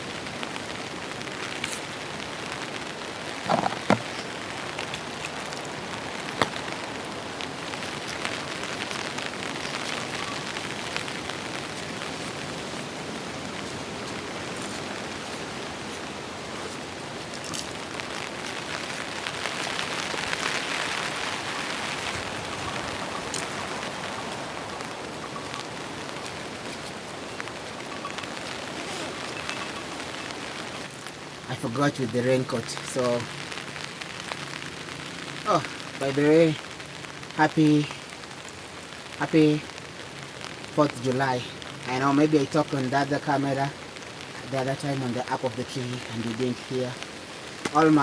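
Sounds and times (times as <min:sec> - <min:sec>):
steady rain: 0:00.0 - 0:48.0.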